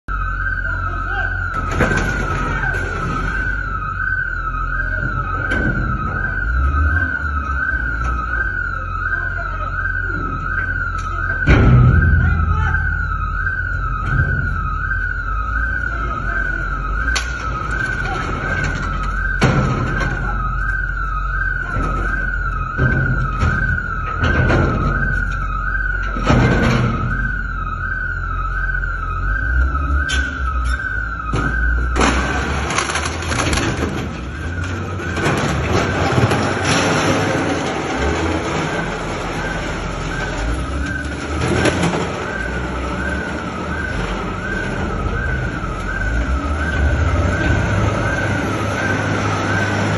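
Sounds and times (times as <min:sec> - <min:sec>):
bulldozer engine rumble: 0:00.0 - 0:49.9
electronic alarm siren wailing: 0:00.0 - 0:49.9
heavy bangs: 0:00.2 - 0:49.9.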